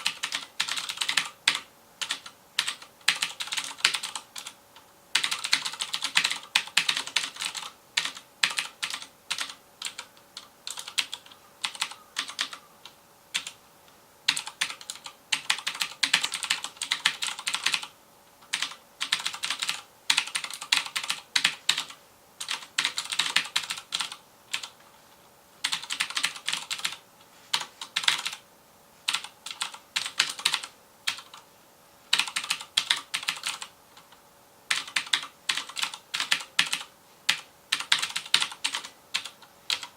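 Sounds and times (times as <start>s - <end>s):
clicky keyboard typing: 0.0s - 13.6s, 14.3s - 24.9s, 25.6s - 28.4s, 29.1s - 31.4s, 32.1s - 39.9s.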